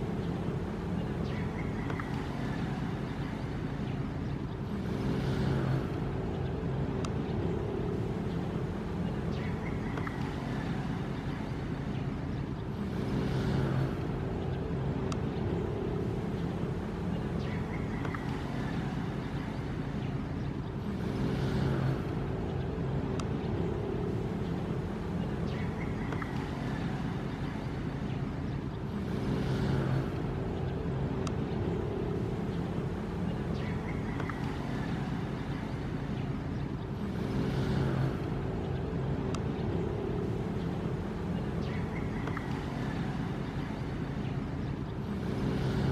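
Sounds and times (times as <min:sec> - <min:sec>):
faint steady hum: 0:00.0 - 0:45.9
low rumble of waves: 0:00.0 - 0:45.9.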